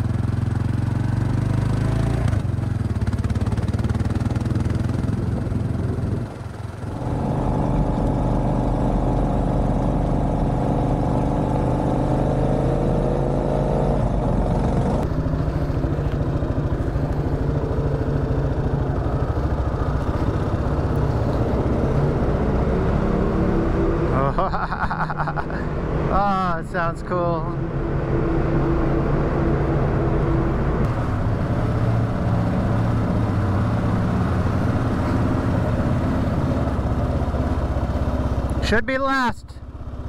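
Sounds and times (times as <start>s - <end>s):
motorcycle engine accelerating: 0.0s - 38.7s, 39.6s - 40.0s.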